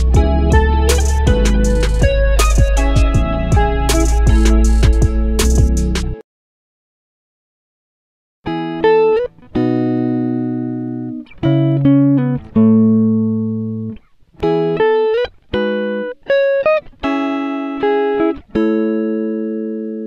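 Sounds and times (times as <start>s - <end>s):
plucked string instrument tune: 0.0s - 6.2s, 8.5s - 20.0s.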